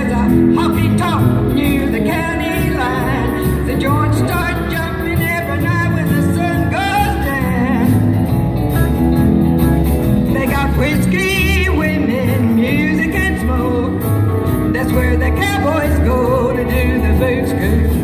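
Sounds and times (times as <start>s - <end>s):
live country band playing: 0.0s - 18.0s
steel guitar: 0.0s - 18.0s.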